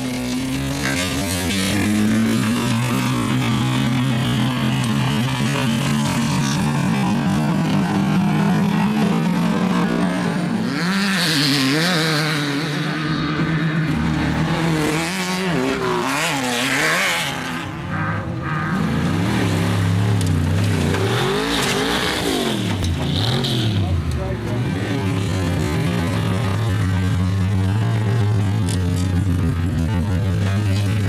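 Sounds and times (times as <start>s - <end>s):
race car engines revving: 0.0s - 31.0s
lower engine note: 0.2s - 31.0s.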